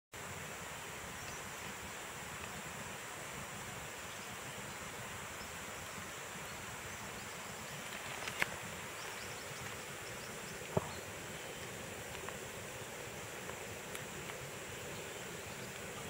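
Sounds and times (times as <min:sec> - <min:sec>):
outdoor background hiss: 0:00.1 - 0:16.0.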